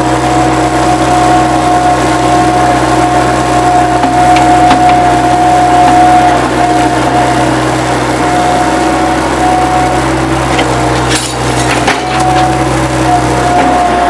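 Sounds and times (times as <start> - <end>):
loader diesel engine running: 0.0 - 14.0.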